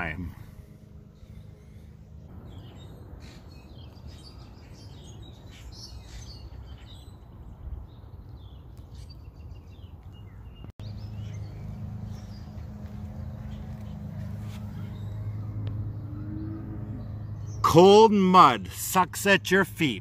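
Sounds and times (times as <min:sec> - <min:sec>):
steady low hum: 0:00.0 - 0:07.9, 0:10.8 - 0:20.0
small birds chirping: 0:00.0 - 0:20.0.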